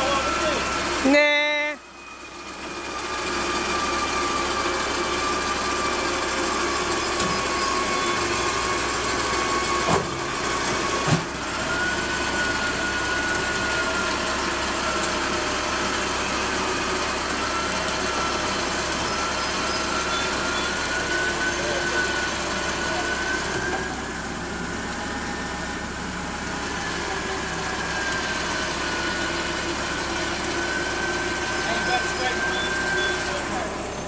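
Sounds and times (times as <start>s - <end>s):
forklift engine running: 0.0s - 34.0s.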